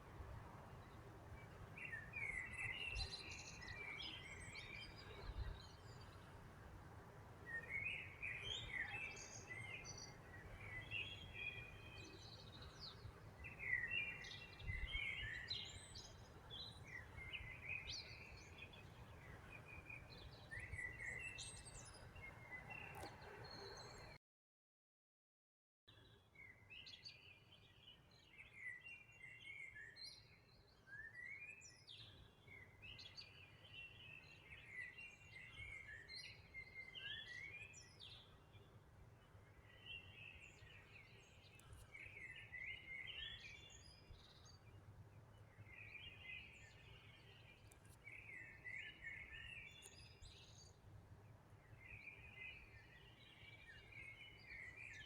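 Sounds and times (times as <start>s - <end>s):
songbird chirping: 7.5s - 24.2s, 25.9s - 55.0s.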